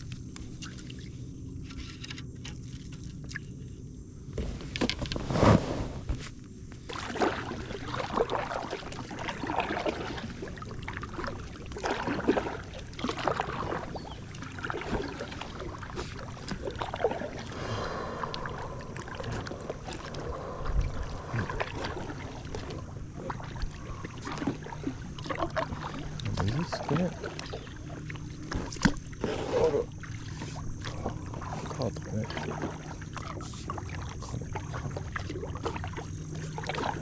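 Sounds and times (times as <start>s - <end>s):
paddle strokes in water: 0.0s - 37.0s
steady low hum: 0.0s - 37.0s.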